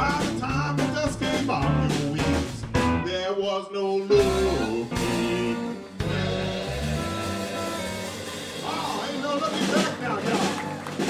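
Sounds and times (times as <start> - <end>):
electric blues band playing: 0.0 - 11.0.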